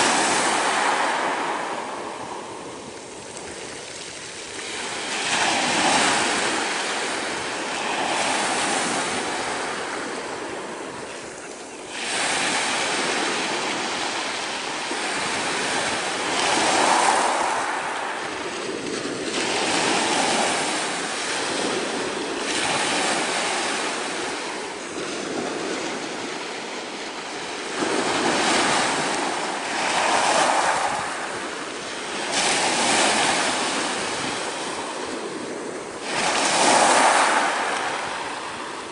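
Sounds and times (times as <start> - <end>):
small waves washing up pebble beach: 0.0 - 38.9.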